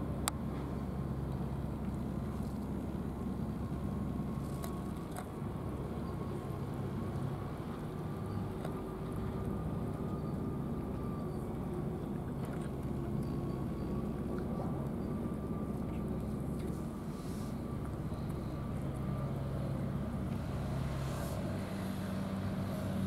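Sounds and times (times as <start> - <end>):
faint steady hum: 0.0 - 23.0
low engine rumble: 0.0 - 23.0.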